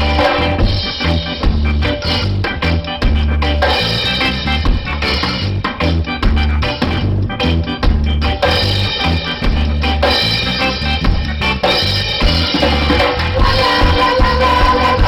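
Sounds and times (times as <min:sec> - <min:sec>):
drum kit: 0:00.0 - 0:15.0
pulsing bass line: 0:00.0 - 0:15.0
ska band playing: 0:00.0 - 0:15.0.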